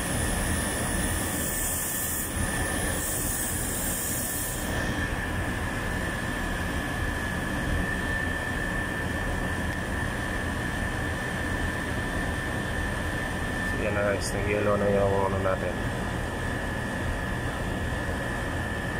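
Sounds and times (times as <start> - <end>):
air conditioner unit droning: 0.0 - 18.9.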